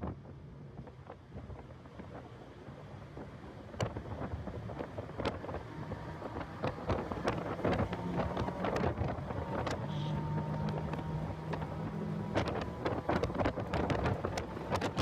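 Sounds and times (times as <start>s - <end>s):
car engine drone: 0.0s - 15.0s
wind buffeting microphone: 0.0s - 15.0s.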